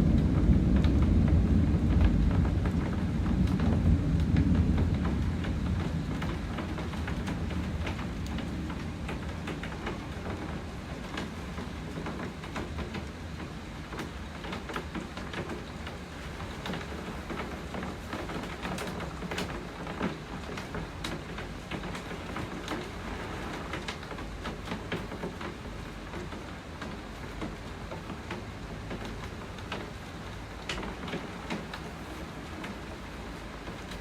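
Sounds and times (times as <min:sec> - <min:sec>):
rain drops on hard surface: 0:00.0 - 0:34.0.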